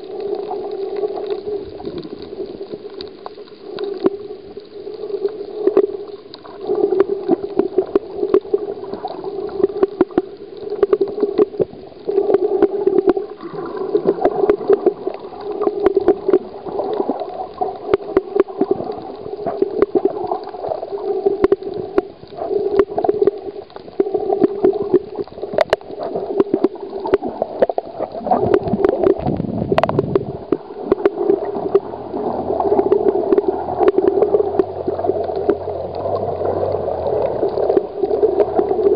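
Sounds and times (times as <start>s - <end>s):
sharp crackling clicks: 0.0s - 38.9s
underwater sloshing and gurgling: 0.0s - 38.9s.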